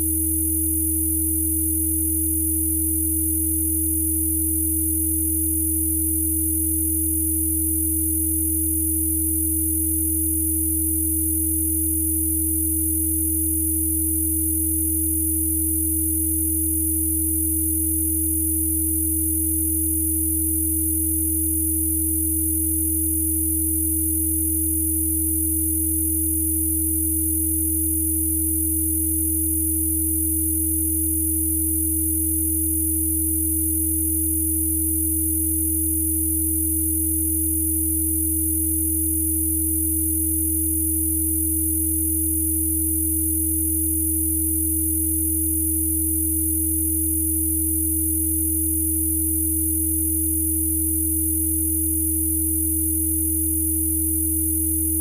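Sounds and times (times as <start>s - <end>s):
mid-pitched sine tone: 0.0s - 55.0s.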